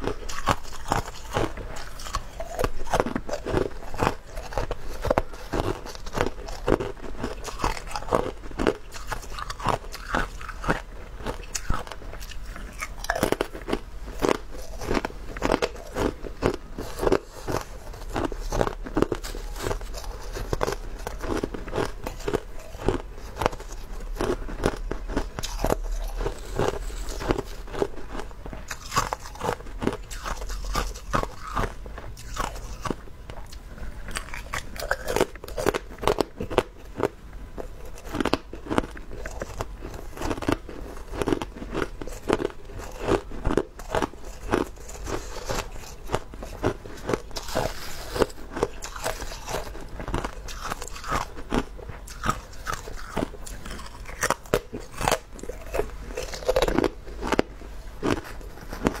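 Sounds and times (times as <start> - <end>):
ice crunching between teeth: 0.0 - 59.0.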